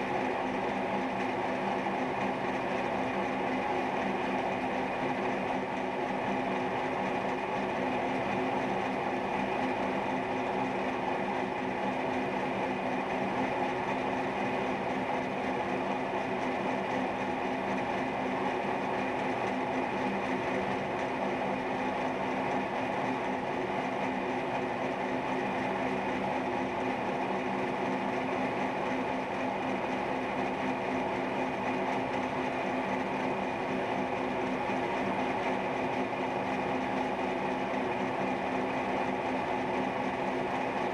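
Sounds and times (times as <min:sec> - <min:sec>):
milling machine hum: 0:00.0 - 0:40.9.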